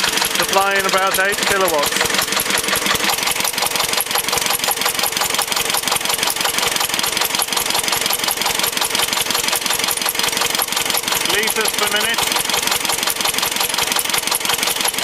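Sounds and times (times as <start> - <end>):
diesel generator engine knocking: 0.0 - 15.0.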